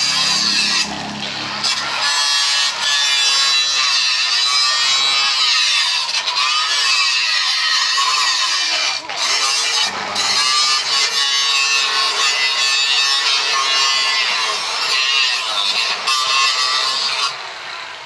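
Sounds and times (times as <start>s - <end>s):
power tool whining while cutting: 0.0s - 18.0s.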